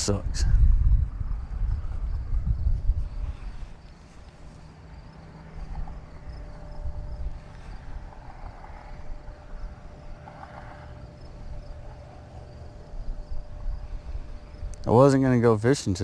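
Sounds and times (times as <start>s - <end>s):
insect chirps: 0.0s - 16.0s
wind buffeting microphone: 0.0s - 16.0s.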